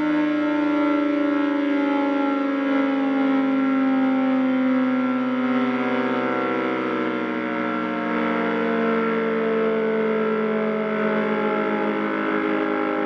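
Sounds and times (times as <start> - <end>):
electric siren wailing: 0.0 - 13.0.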